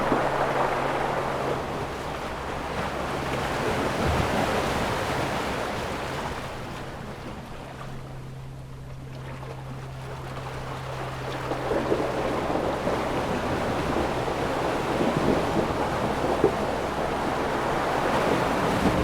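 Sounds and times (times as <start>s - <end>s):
ocean waves washing in: 0.0s - 7.2s, 10.8s - 19.0s.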